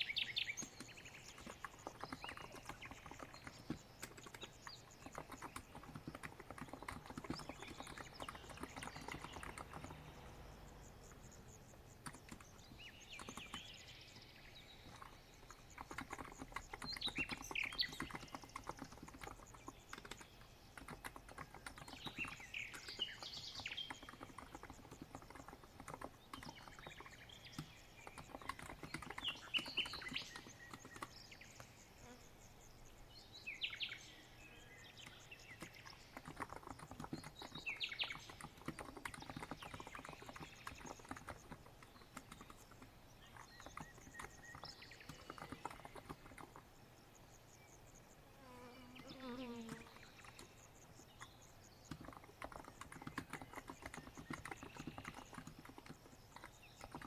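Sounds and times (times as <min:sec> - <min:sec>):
birds chirping: 0:00.0 - 0:57.0
typing on keyboard: 0:00.4 - 0:31.7, 0:35.0 - 0:46.7, 0:49.6 - 0:57.0.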